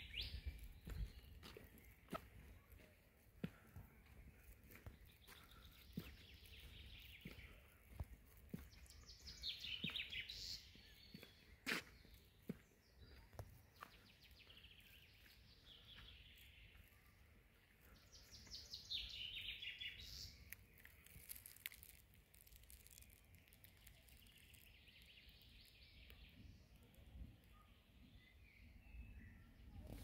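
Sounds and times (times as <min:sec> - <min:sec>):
small birds chirping and trilling: 0:00.0 - 0:30.0.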